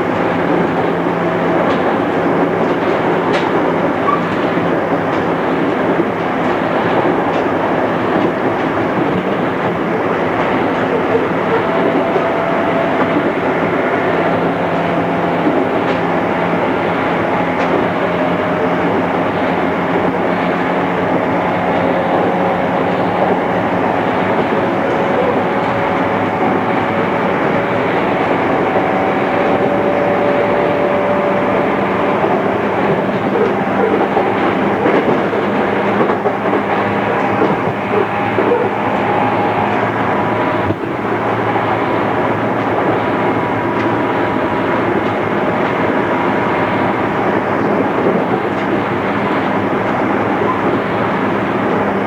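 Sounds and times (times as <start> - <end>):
train wheel and rail noise: 0.0 - 52.0.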